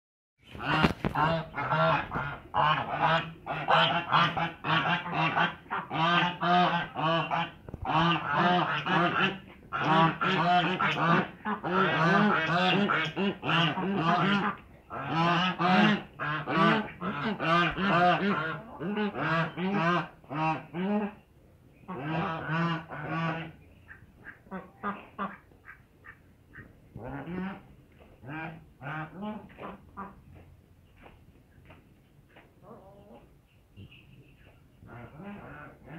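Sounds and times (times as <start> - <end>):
geese honking: 0.5 - 21.2, 21.9 - 30.2.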